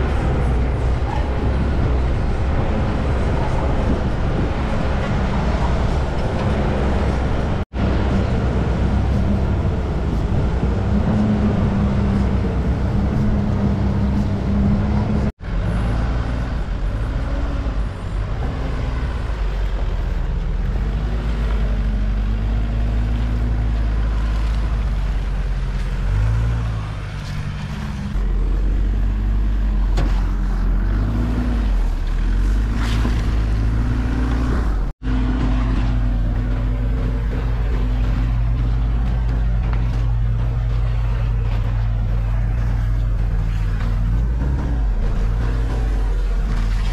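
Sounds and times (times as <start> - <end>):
tyres rumbling: 0.0 - 46.9
vehicle engine under load: 0.0 - 46.9
wind: 0.0 - 46.9.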